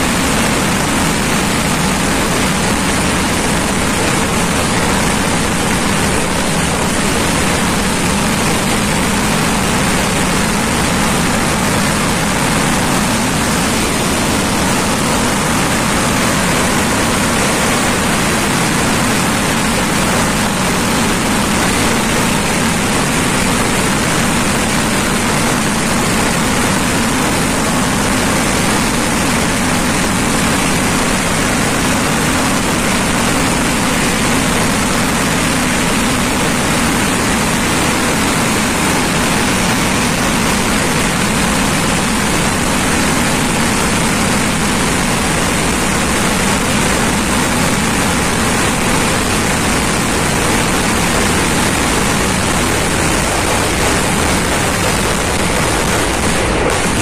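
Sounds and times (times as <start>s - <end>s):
fireworks barrage: 0.0s - 57.0s.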